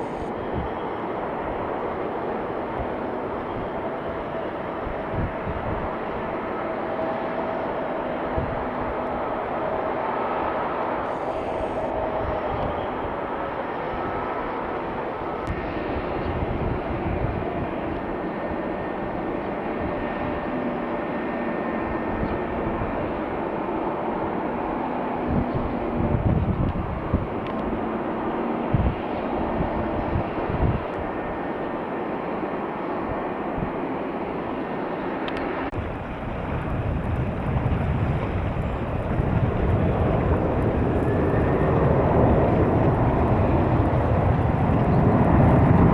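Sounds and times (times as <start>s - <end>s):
wind buffeting microphone: 0.0s - 31.5s, 35.5s - 45.9s
jet engines rushing and whining: 0.0s - 45.9s.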